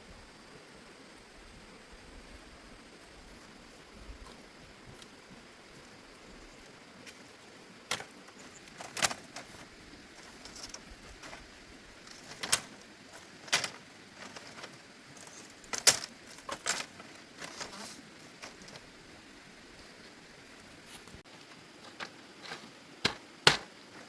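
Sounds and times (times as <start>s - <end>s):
faint steady background noise: 0.0s - 24.0s.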